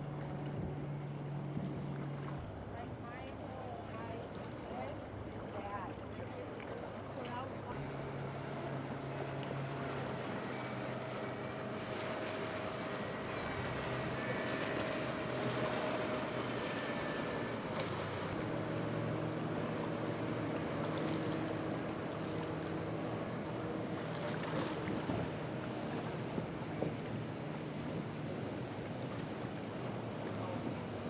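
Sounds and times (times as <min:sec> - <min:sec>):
boat engines running: 0:00.0 - 0:31.0
wind and water wash: 0:00.0 - 0:31.0.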